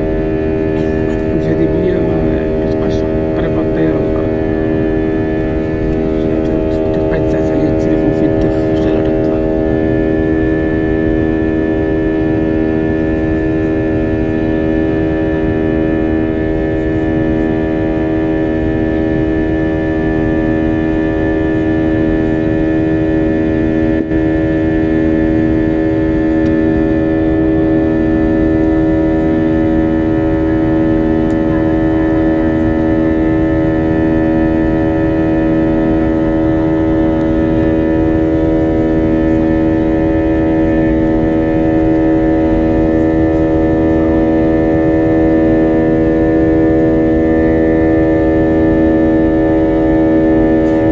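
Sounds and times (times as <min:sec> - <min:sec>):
airliner cabin engine drone: 0:00.0 - 0:50.9.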